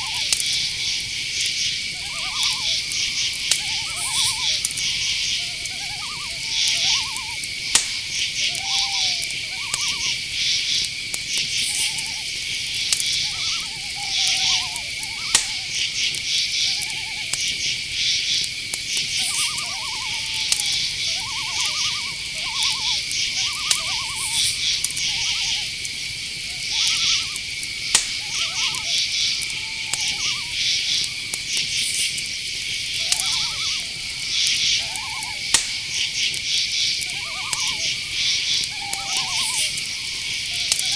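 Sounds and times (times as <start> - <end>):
crickets chirping in a high trill: 0.0 - 40.9
lower-pitched trilled insect calls: 0.0 - 40.9
sharp clicks: 0.2 - 40.9.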